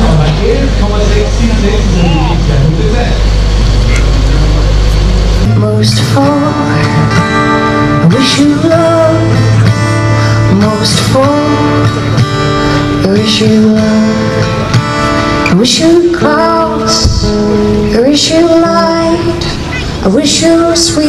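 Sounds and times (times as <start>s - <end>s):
song with guitar and singing: 3.9s - 21.0s.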